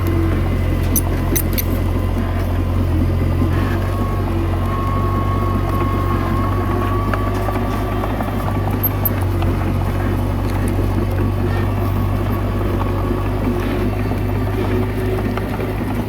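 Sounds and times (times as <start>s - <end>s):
bulldozer diesel engine running: 0.0s - 16.0s
thin steady whine: 0.0s - 16.0s.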